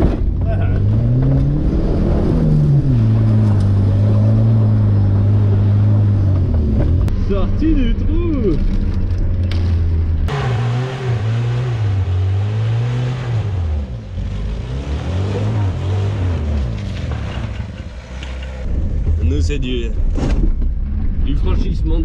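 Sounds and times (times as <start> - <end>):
off-road vehicle engine revving: 0.0 - 8.7, 9.3 - 19.0.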